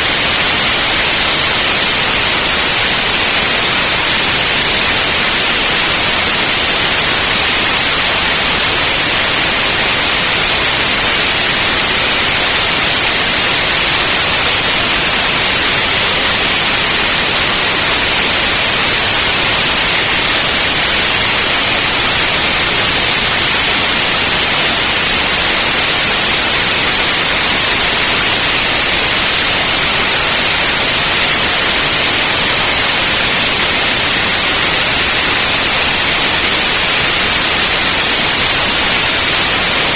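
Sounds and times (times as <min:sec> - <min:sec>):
loud white noise hiss: 0:00.0 - 0:39.9.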